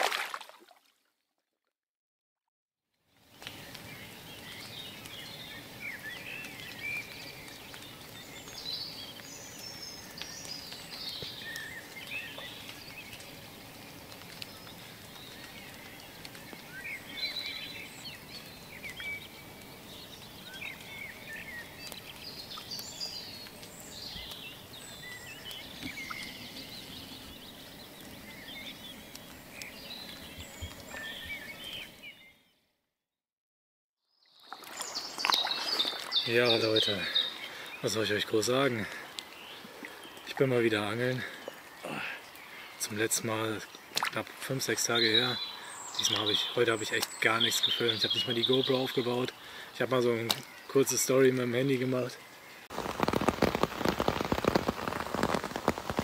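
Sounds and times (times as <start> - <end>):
outdoor background noise: 3.0 - 32.5, 34.2 - 56.0
small birds chirping: 3.1 - 32.7, 34.1 - 56.0.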